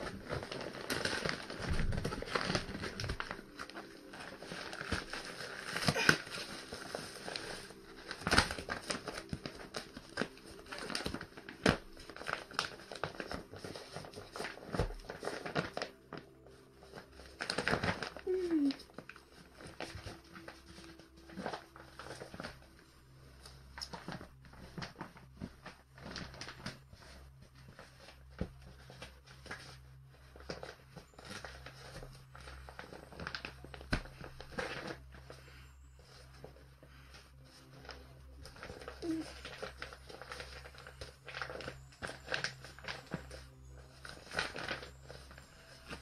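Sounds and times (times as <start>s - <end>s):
plastic crinkling and rustling: 0.0s - 46.0s.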